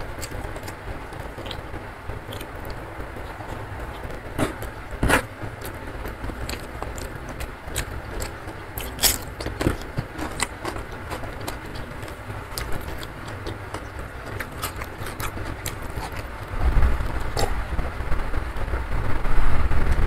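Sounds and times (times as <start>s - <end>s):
chewing with wet clicks and smacks: 0.0s - 16.5s
steady low rumble: 0.0s - 20.0s.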